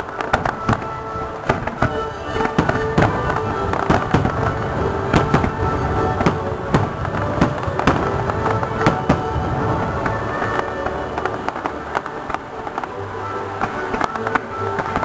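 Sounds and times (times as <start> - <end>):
music playing: 0.0 - 15.0.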